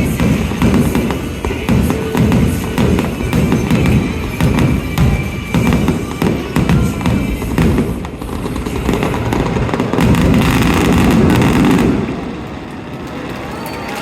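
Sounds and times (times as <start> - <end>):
music: 0.0 - 11.9
fireworks booming and cracking: 0.0 - 14.0.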